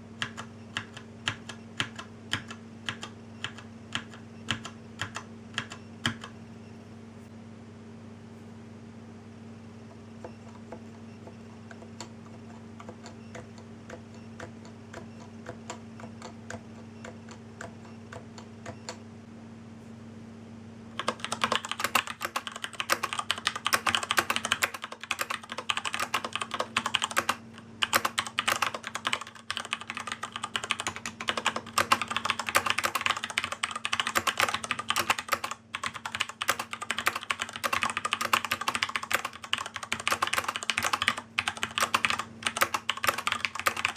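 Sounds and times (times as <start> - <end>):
keyboard keystroke clatter: 0.2 - 6.4, 10.2 - 19.0, 21.0 - 43.9.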